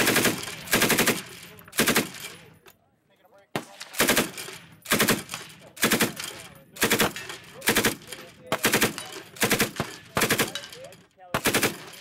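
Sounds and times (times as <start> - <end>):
machine gun firing bursts: 0.0 - 2.4, 3.6 - 12.0.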